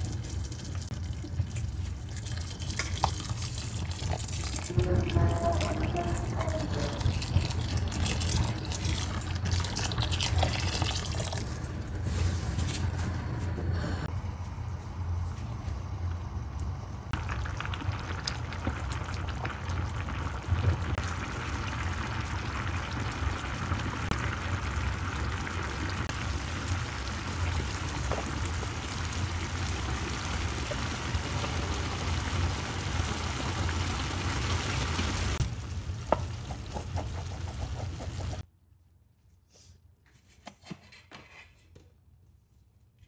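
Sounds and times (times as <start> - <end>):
rice boiling in water: 0.0 - 12.8, 15.3 - 38.5.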